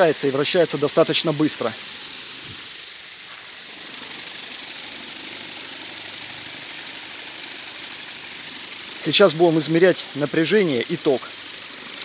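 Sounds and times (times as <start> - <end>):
electric motor running: 0.0 - 12.0
propeller rushing air: 0.7 - 12.0.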